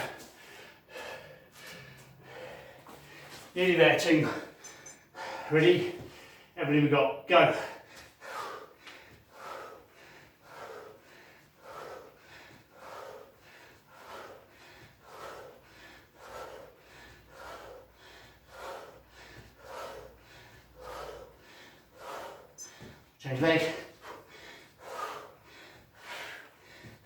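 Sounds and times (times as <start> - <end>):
person breathing out hard: 0.0 - 3.5, 4.2 - 6.6, 7.6 - 27.0.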